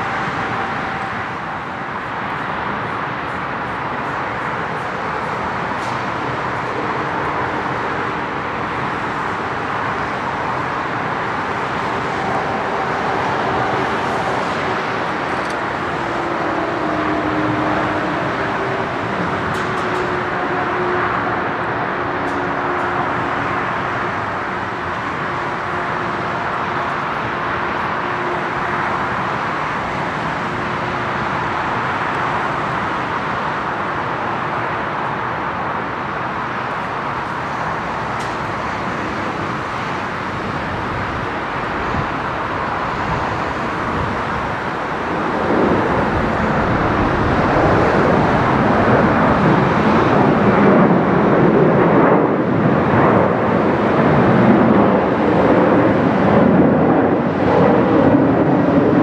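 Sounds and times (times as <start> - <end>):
jet engines at takeoff power: 0.0 - 59.0.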